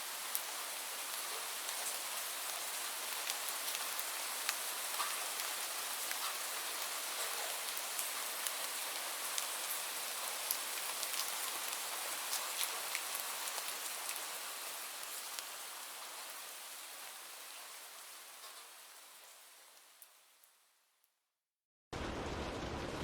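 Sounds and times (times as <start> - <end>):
steady rain: 0.0 - 20.9, 22.0 - 23.0.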